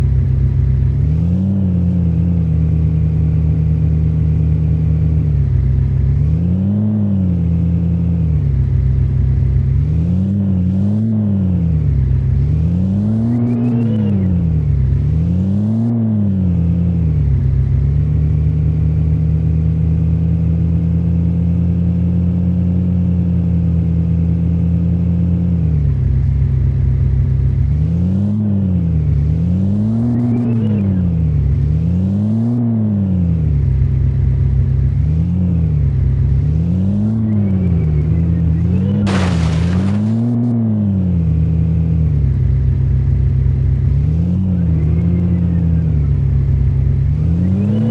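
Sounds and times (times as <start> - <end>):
heavy vehicle engine revving: 0.0 - 47.9.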